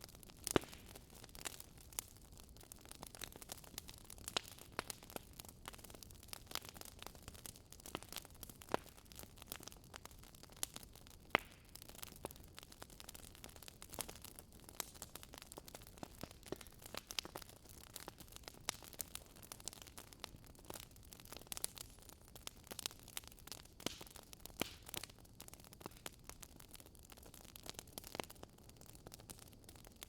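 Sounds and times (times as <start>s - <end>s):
faint steady hiss: 0.0s - 27.0s
campfire crackling and popping: 0.0s - 30.0s.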